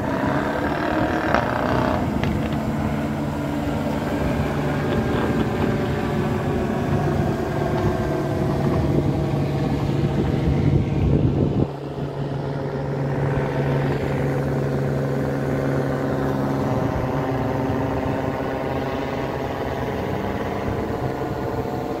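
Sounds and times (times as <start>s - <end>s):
helicopter passing overhead: 0.0s - 22.0s
steady engine hum: 0.0s - 22.0s.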